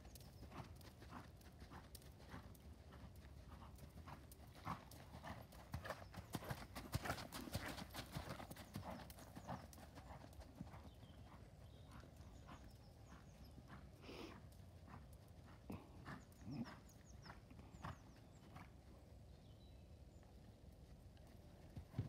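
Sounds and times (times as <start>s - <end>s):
hoofbeats on sand: 0.2s - 18.7s.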